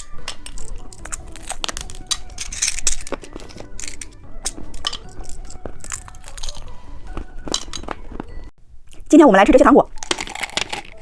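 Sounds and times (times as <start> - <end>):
plastic candy packaging crackling: 0.0 - 11.0.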